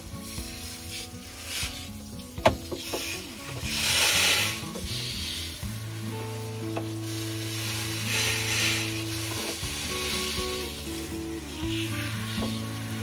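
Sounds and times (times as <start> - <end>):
background music: 0.0 - 13.0
hose spray hissing: 0.0 - 13.0.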